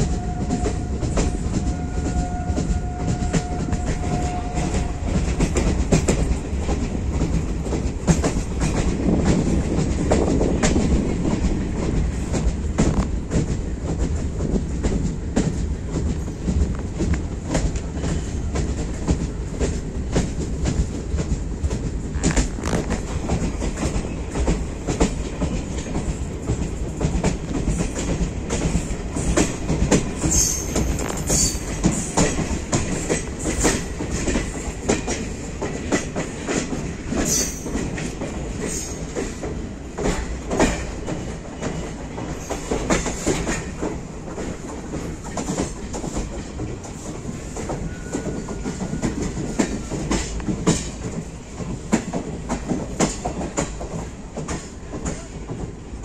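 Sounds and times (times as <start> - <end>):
train wheels rumbling on rails: 0.0 - 56.0
wheels clacking over rail joints: 0.2 - 55.8.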